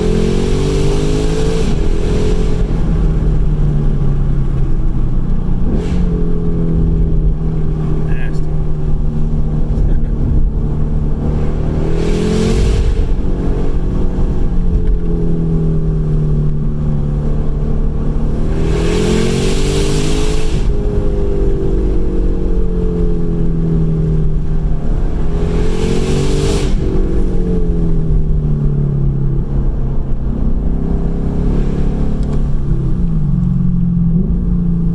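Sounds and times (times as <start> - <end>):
car exhaust droning and revving: 0.0 - 34.9.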